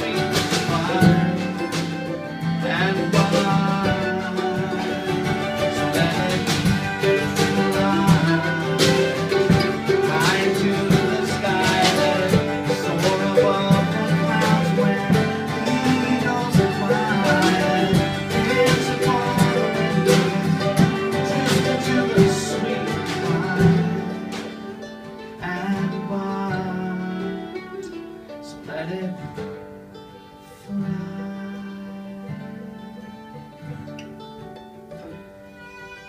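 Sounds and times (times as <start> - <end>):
acoustic folk instrumental: 0.0 - 36.0.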